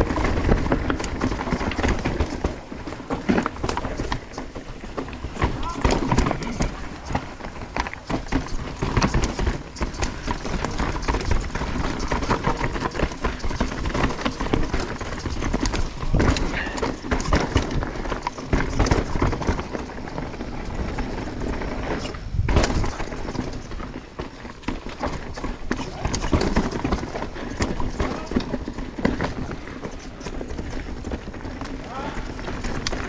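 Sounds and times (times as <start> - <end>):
bike rattling: 0.0 - 33.0
tires crunching over rock: 0.0 - 33.0.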